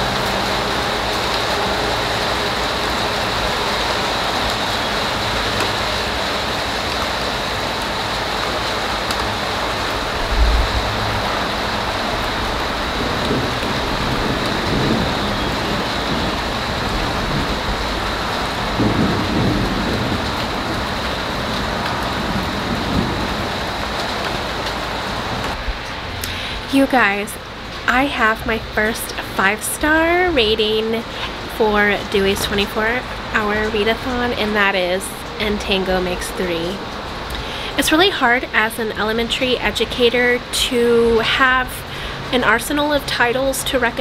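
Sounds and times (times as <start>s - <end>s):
thunder rumbles: 0.0s - 37.9s
steady rain falling: 0.0s - 44.0s.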